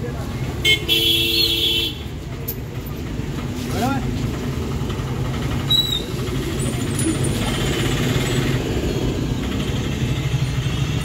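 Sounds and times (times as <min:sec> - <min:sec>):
vehicle engine idling: 0:02.0 - 0:11.0.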